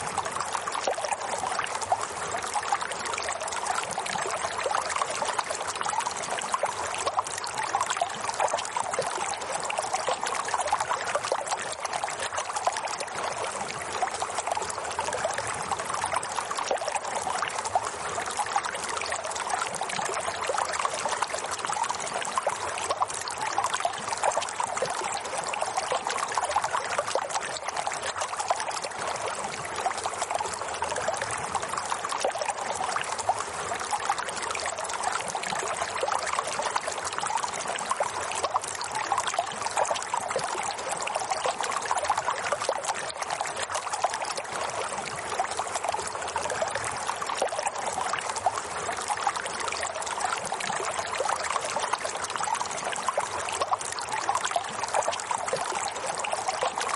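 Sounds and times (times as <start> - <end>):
water flowing and trickling: 0.0 - 56.9.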